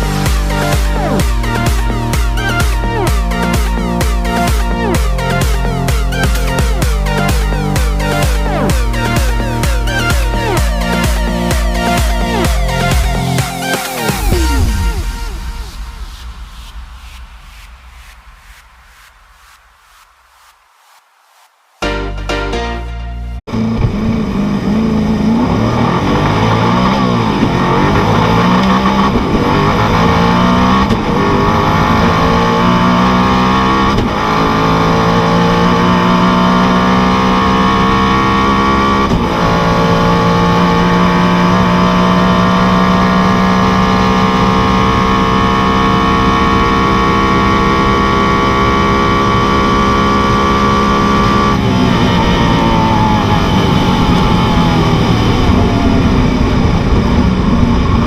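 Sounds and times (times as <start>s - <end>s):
car engine accelerating hard: 0.0s - 16.0s, 23.5s - 58.0s.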